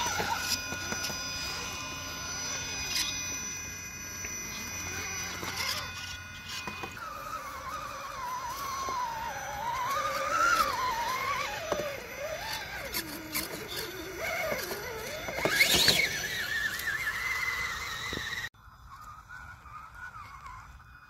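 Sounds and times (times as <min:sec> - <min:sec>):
rc car motor whining: 0:00.0 - 0:21.0.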